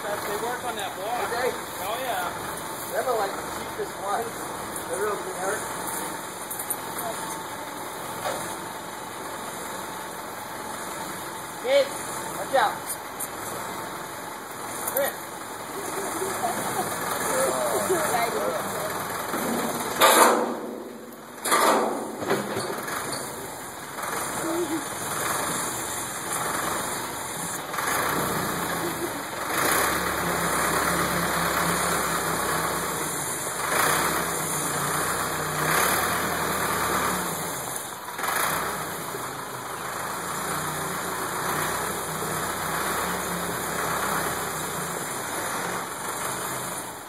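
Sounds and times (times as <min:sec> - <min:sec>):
backhoe diesel engine running: 0:00.0 - 0:47.0.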